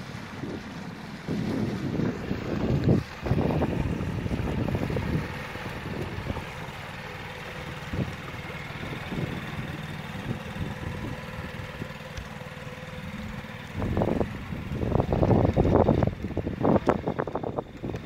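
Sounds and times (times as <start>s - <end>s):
small outboard motor running: 0.0s - 18.0s
wind buffeting microphone: 0.0s - 18.0s.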